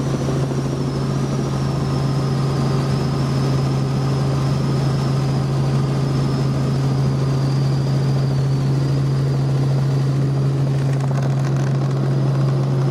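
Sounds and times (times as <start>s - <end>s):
helicopter rotor and engine: 0.0s - 12.9s.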